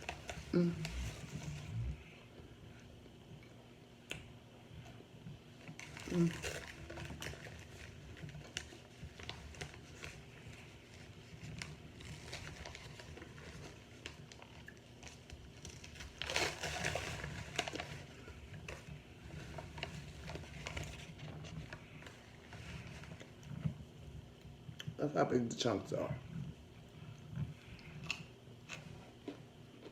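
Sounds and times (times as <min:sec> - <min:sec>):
crunchy food being chewed: 0:03.3 - 0:25.0, 0:26.2 - 0:29.9.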